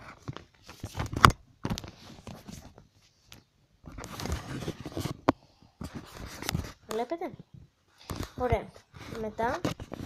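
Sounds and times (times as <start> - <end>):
paper rustling and crackling: 0.0 - 7.1, 8.0 - 10.0.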